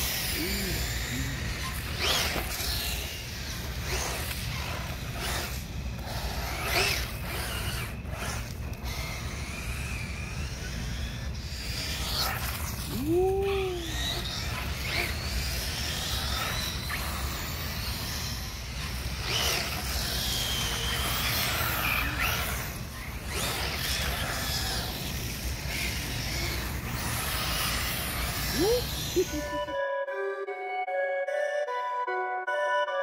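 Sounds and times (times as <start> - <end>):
electric motor whining: 0.0 - 29.7.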